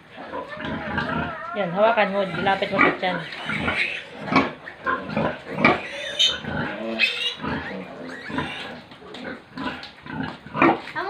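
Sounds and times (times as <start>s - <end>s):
pigs grunting: 0.0s - 11.0s
piglets squealing: 0.2s - 10.9s.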